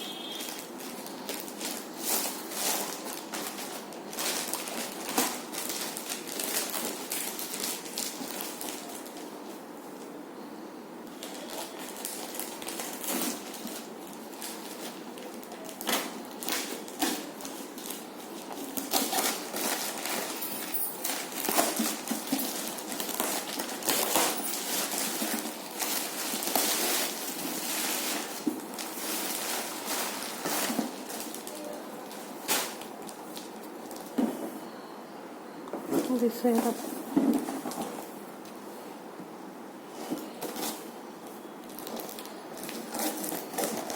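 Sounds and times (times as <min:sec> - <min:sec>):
packaging rustling and crackling: 0:00.3 - 0:10.1, 0:11.1 - 0:34.5, 0:39.9 - 0:43.9.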